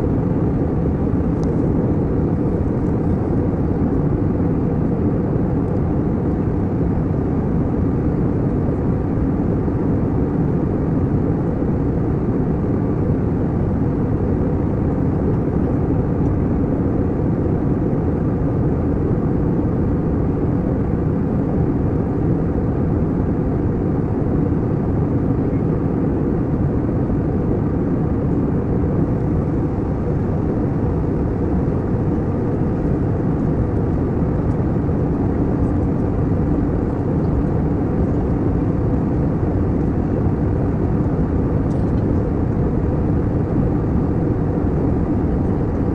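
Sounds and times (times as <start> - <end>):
airliner cabin engine rush: 0.0 - 45.9.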